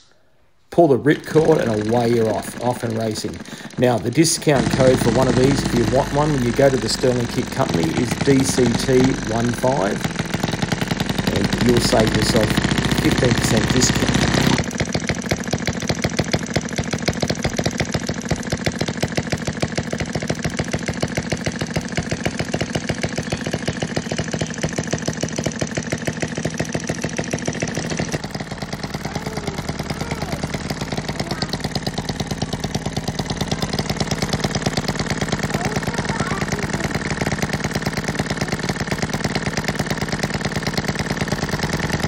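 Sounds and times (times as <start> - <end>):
small petrol engine beating: 0.8 - 42.0.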